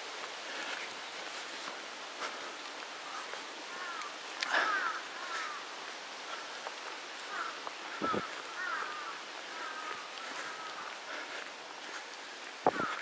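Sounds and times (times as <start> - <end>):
steady background hiss: 0.0 - 13.0
birds chirping: 2.3 - 13.0.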